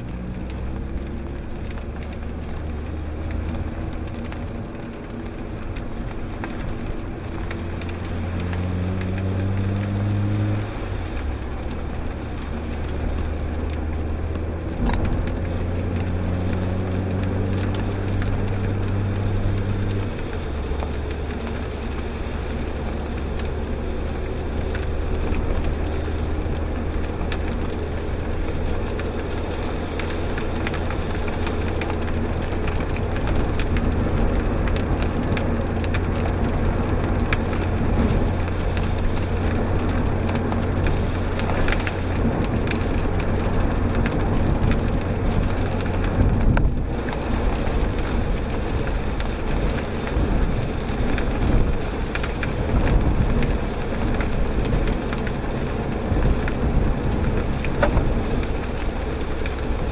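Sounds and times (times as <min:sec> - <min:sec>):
car engine cruising: 0:00.0 - 0:59.9
rain: 0:00.0 - 0:59.9
tyres hissing on wet road: 0:00.0 - 0:59.9.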